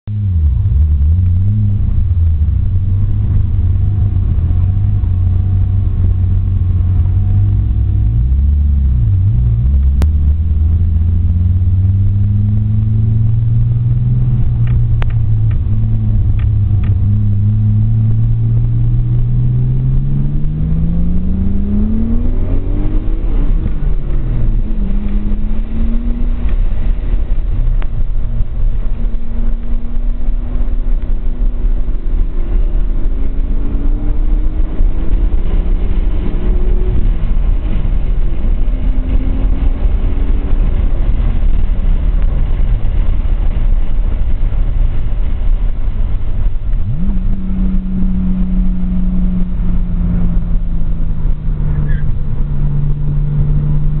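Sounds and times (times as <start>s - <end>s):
car engine revving: 0.1s - 54.0s.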